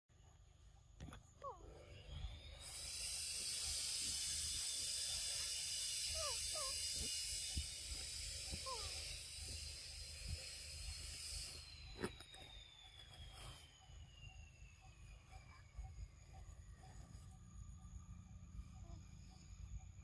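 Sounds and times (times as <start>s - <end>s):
high insect drone: 1.4s - 20.0s.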